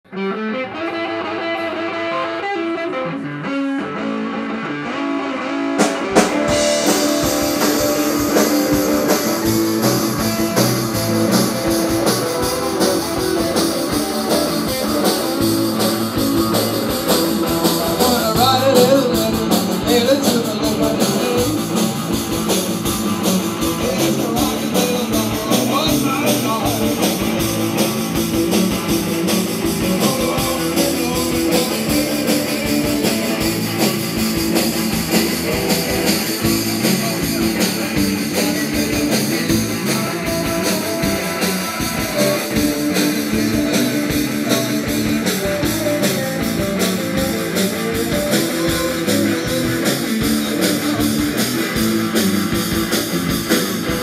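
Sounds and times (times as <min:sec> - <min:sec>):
electric guitars and bass: 0:00.0 - 0:54.0
drum kit with cymbals: 0:05.7 - 0:54.0.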